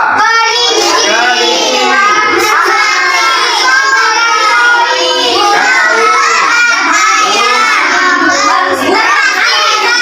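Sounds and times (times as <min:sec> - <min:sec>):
child singing: 0:00.0 - 0:10.0.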